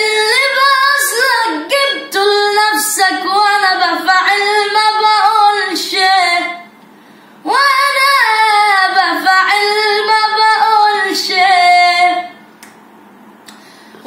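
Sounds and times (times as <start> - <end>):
boy singing a cappella: 0.0 - 6.7, 7.4 - 12.4.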